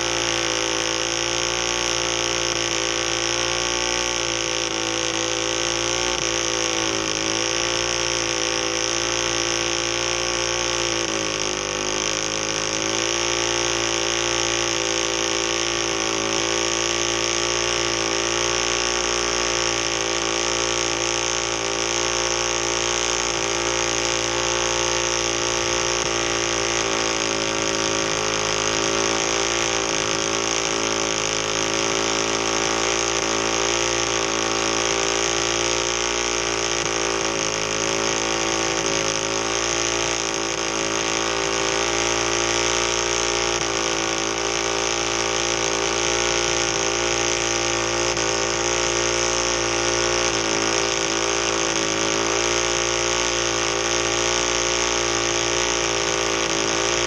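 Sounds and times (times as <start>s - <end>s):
small engine at high revs: 0.0s - 57.0s
tire spinning on ground: 0.0s - 57.0s.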